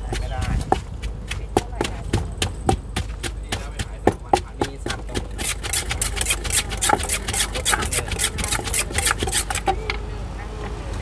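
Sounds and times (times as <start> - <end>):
pestle knocking in mortar: 0.0 - 9.8
pestle scraping in mortar: 0.0 - 9.8.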